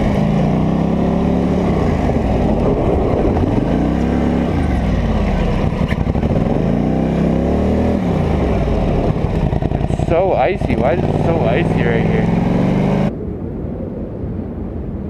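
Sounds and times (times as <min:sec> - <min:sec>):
atv engine revving: 0:00.0 - 0:13.1.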